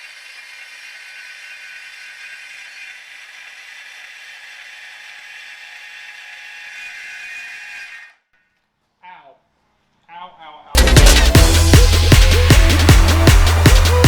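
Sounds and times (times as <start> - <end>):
power tool cutting steel: 0.0 - 8.2, 10.8 - 14.0.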